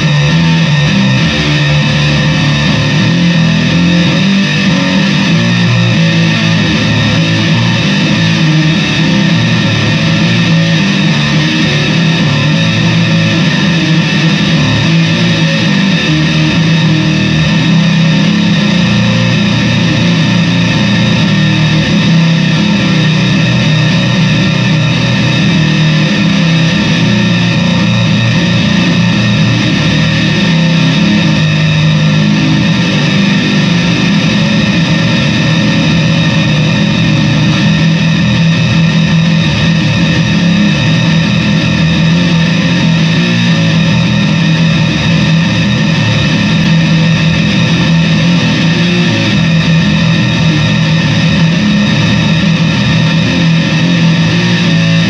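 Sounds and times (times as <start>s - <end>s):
distorted bass guitar: 0.0s - 55.0s.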